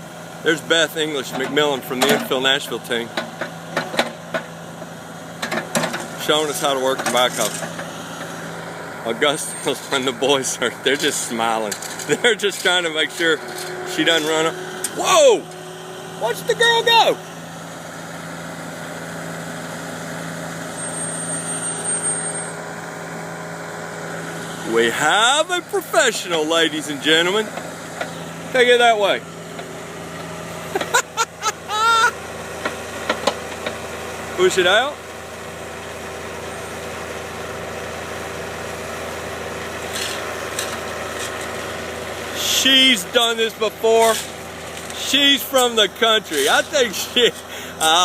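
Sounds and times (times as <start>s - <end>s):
backhoe diesel engine running: 0.0s - 48.0s.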